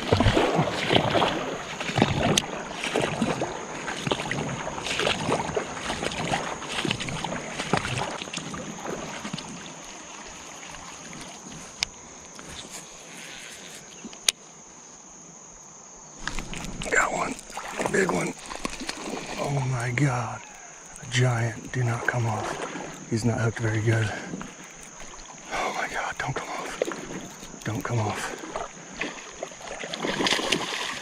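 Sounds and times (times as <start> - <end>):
creek water splashing: 0.0 - 13.9, 16.2 - 31.0.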